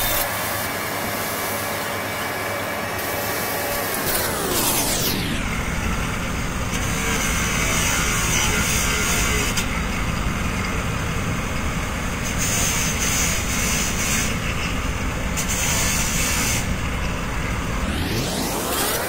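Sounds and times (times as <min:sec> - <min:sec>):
power grinder on sheet metal: 0:00.0 - 0:09.8, 0:12.2 - 0:19.0.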